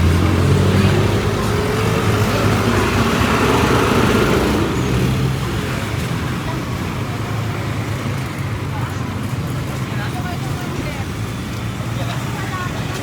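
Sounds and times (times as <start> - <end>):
vehicle engine running: 0.0 - 11.5
street traffic noise: 0.0 - 13.0.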